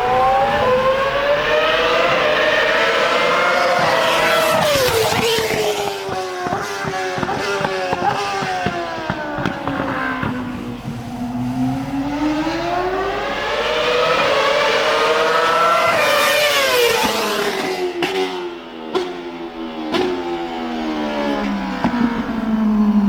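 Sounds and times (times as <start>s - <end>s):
engine crackles: 0.0s - 23.0s
racing car engine revving: 0.0s - 23.0s.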